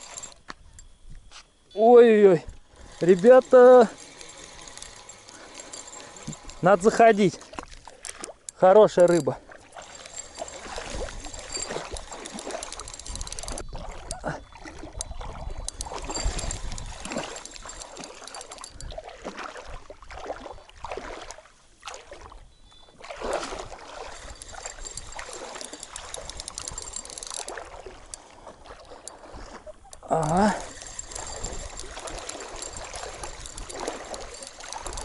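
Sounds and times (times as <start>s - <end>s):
fishing reel cranking: 0.0s - 1.0s, 1.8s - 19.8s, 23.1s - 35.0s
water sloshing and lapping: 2.5s - 35.0s.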